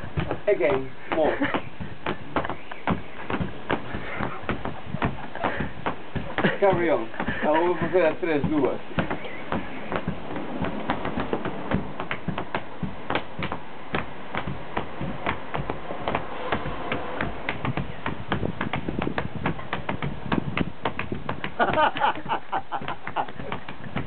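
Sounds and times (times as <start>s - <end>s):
palms slapping concrete wall: 0.0s - 24.0s.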